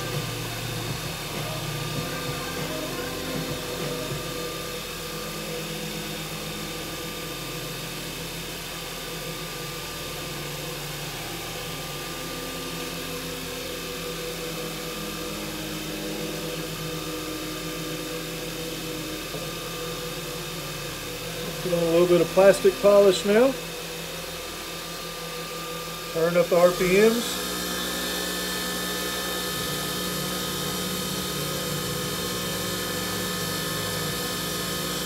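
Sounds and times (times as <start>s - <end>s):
lathe motor hum: 0.0s - 35.0s.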